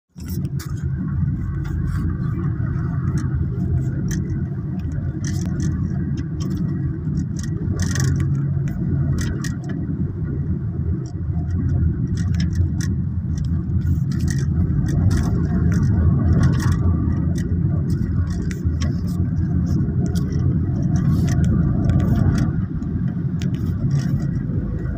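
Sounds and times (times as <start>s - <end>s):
car engine and road noise: 0.1s - 24.9s
light clicks and rattles: 0.2s - 9.8s, 11.0s - 24.9s.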